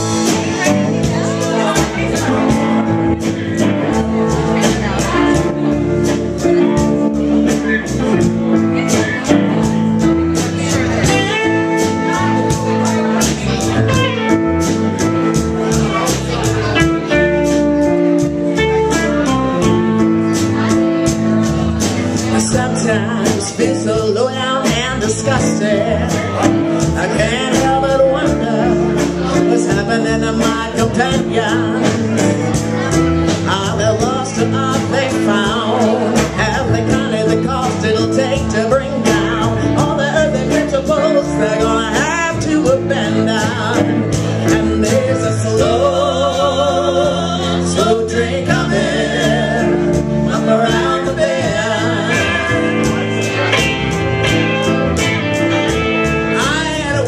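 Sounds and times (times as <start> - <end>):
person singing: 0.0 - 57.0
strummed guitar: 0.0 - 57.0.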